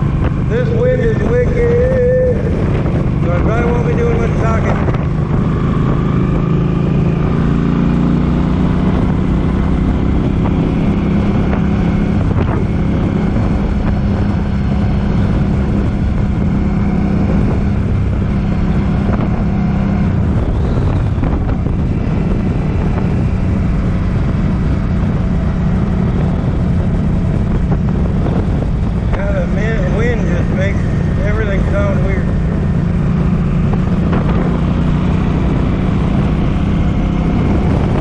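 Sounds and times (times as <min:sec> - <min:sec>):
motorcycle engine running: 0:00.0 - 0:38.0
wind buffeting microphone: 0:00.0 - 0:38.0.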